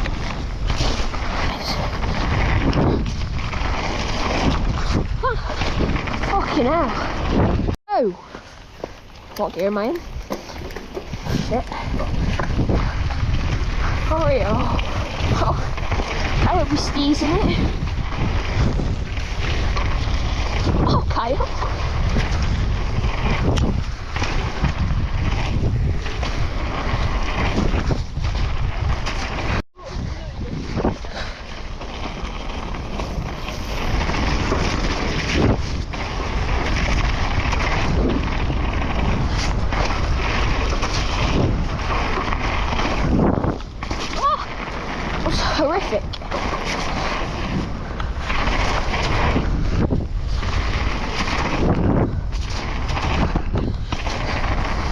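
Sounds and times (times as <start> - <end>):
bike rumbling over rough ground: 0.0 - 54.9
wind buffeting microphone: 0.0 - 54.9.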